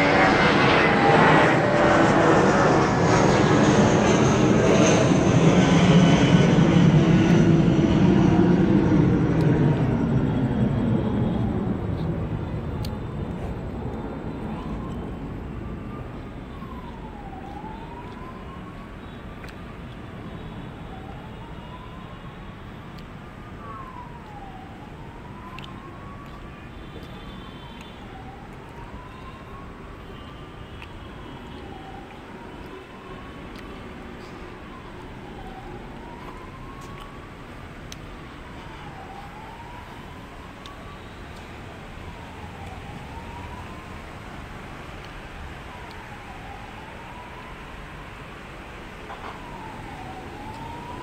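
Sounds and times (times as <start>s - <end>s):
siren wailing: 0.0s - 51.0s.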